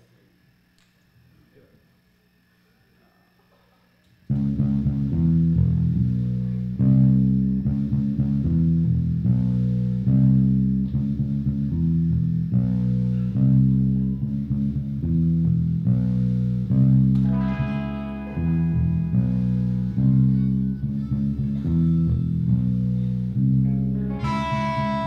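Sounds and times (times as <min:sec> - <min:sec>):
bass guitar: 0:04.2 - 0:25.0
electric guitar chords: 0:04.2 - 0:25.0.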